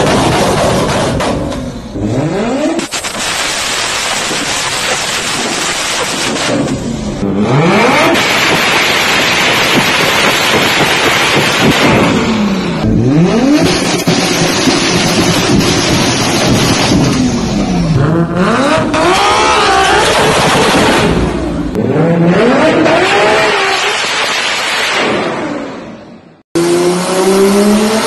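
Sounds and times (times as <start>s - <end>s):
car engine revving: 0.0s - 28.0s
exhaust crackle and backfires: 0.0s - 28.0s.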